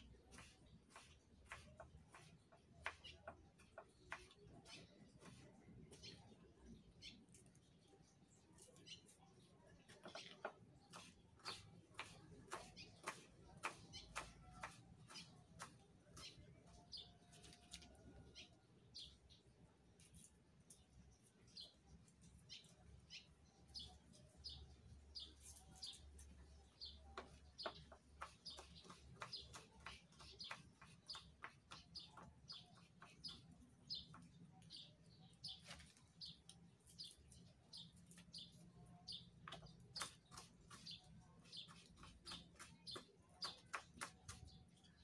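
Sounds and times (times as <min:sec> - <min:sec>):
small bird chirping: 0:00.0 - 0:45.0.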